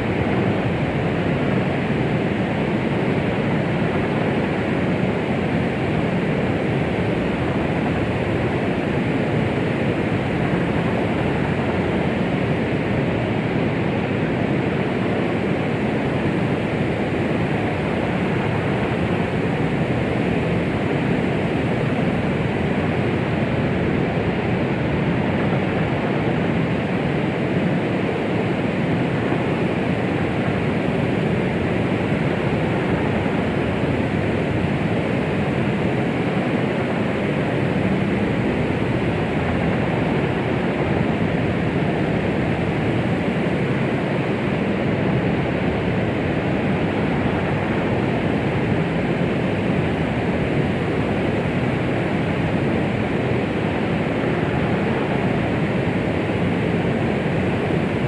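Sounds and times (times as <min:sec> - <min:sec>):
muffled white noise hiss: 0:00.0 - 0:58.0.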